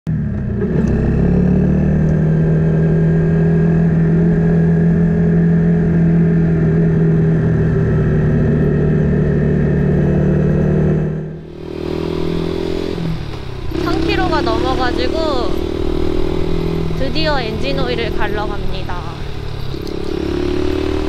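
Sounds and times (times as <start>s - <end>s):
motorcycle engine droning: 0.1s - 21.0s.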